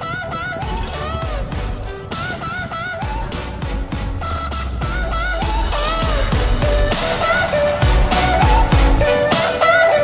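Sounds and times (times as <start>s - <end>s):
pop music with deep beat: 0.0s - 10.0s.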